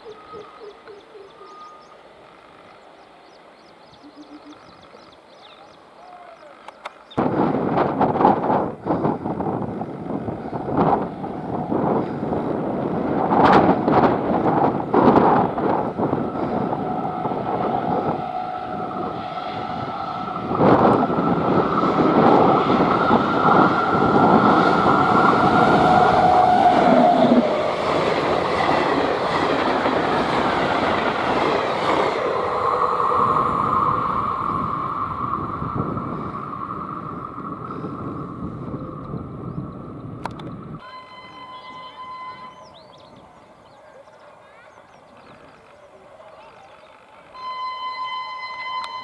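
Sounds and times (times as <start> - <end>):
train passing at speed: 0.0 - 6.0, 7.2 - 49.0.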